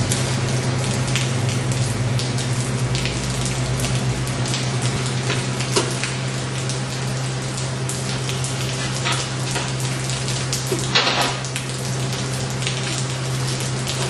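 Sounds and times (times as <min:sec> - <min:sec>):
arc welding crackle: 0:00.0 - 0:14.0
steady electrical hum: 0:00.0 - 0:14.0.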